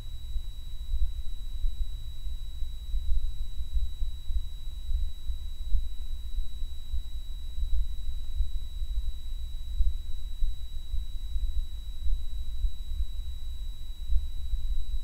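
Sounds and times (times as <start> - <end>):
faint whine: 0.0 - 15.0.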